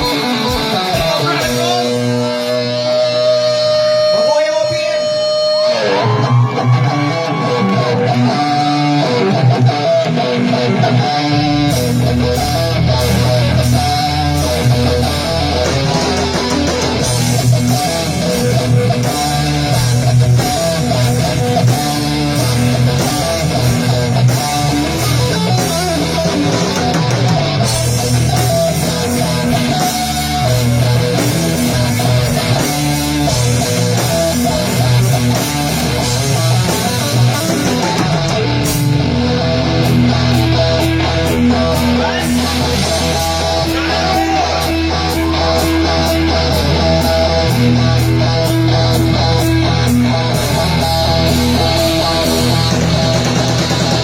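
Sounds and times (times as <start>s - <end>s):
bass: 0.0s - 54.0s
drums: 0.0s - 54.0s
electric guitar: 0.0s - 54.0s.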